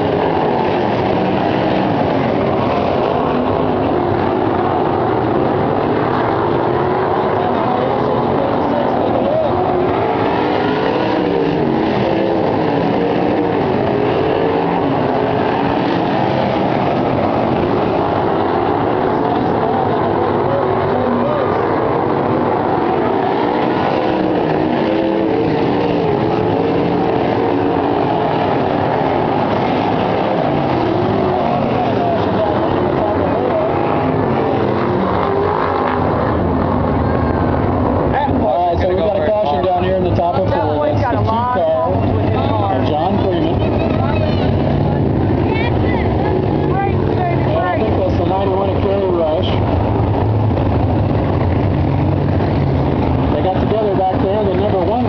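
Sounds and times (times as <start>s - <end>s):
many race car engines droning: 0.0s - 55.0s.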